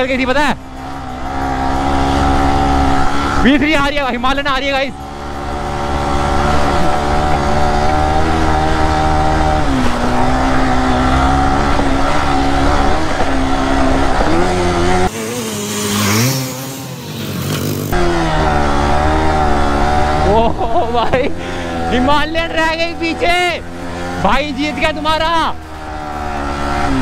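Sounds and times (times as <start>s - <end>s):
engine revving up: 0.0s - 27.0s
motorcycle engine running hard: 0.0s - 27.0s.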